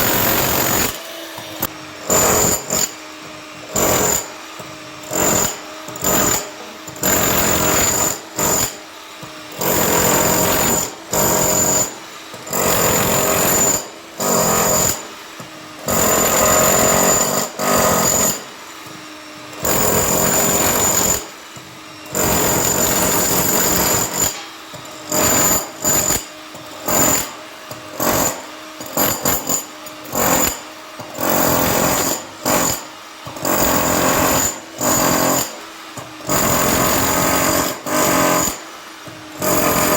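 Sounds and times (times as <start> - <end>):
hammer drill breaking concrete: 0.0 - 39.9.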